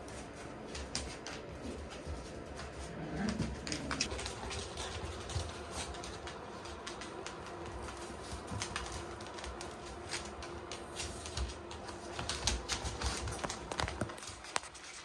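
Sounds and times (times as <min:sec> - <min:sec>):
dog claws clicking on hard floor: 0:00.7 - 0:15.0.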